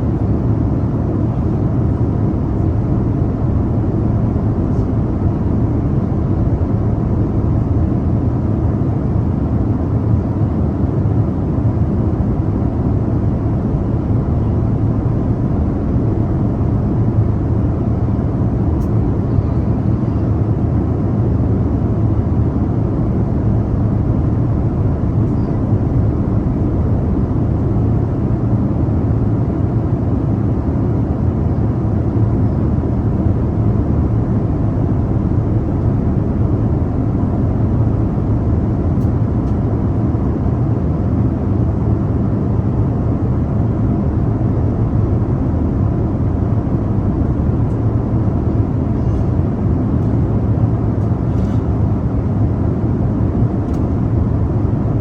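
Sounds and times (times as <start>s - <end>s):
airliner cabin drone: 0.0s - 55.0s
faint hum: 0.0s - 55.0s.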